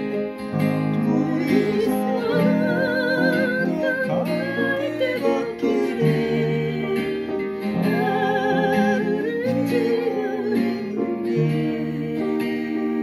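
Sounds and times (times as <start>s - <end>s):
acoustic guitar: 0.0s - 13.0s
upright piano chords: 0.0s - 13.0s
woman singing slow ballad: 0.9s - 13.0s.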